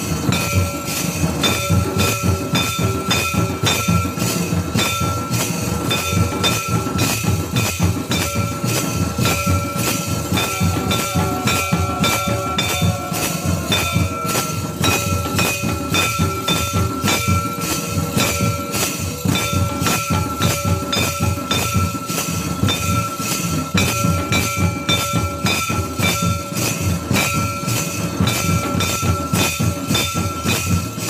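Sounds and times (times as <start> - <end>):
barrel drums beating: 0.0 - 31.0
hand cymbals ringing: 0.0 - 31.0.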